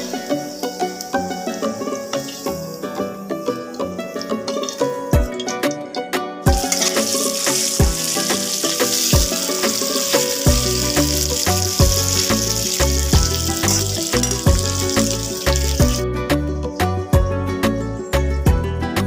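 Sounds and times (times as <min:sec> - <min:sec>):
potato wedges sizzling in oil: 0:00.0 - 0:05.7, 0:06.5 - 0:16.0
background music with steady beat: 0:00.0 - 0:19.0.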